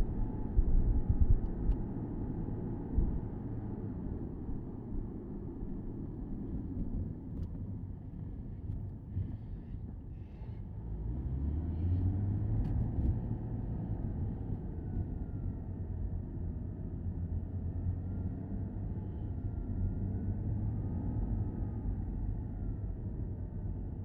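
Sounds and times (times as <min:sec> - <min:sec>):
car engine while driving: 0:00.0 - 0:24.0
road rumble: 0:00.0 - 0:24.0.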